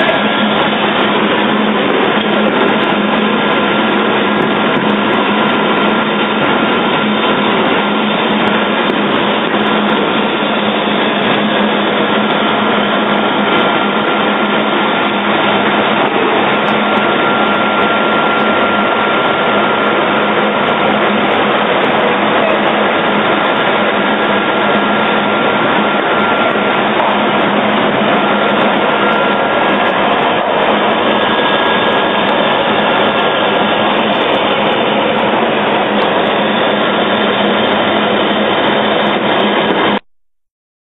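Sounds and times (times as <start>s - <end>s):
extruder machine din: 0.0s - 40.0s
high machine whine: 0.0s - 40.0s.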